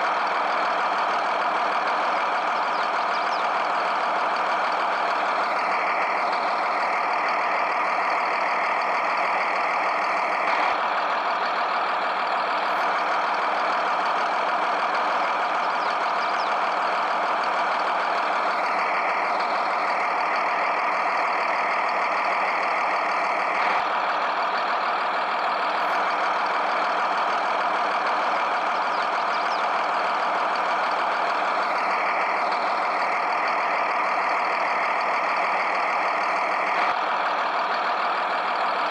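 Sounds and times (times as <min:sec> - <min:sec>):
loud engine-like running noise: 0:00.0 - 0:38.9.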